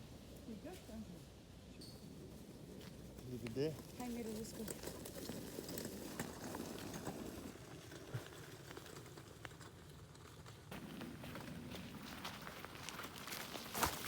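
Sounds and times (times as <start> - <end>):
faint footsteps on rough ground: 2.2 - 14.0.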